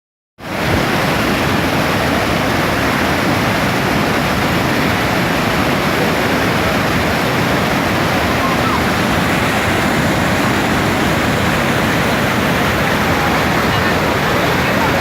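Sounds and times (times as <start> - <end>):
water rushing: 0.4 - 15.0.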